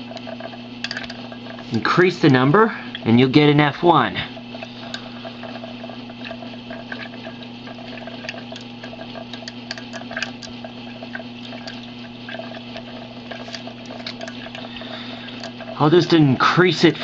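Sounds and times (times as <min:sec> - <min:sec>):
electric hum with hiss: 0:00.0 - 0:17.0.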